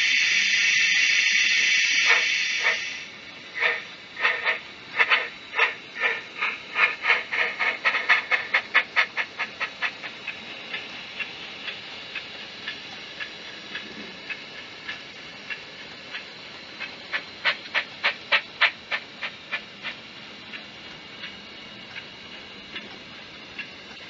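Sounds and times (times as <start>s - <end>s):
model locomotive steam chuffs: 0.0s - 24.0s.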